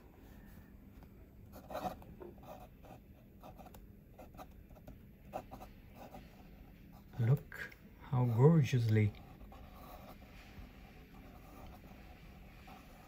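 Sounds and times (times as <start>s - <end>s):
pen scratching on paper: 1.5s - 7.4s, 8.1s - 13.0s.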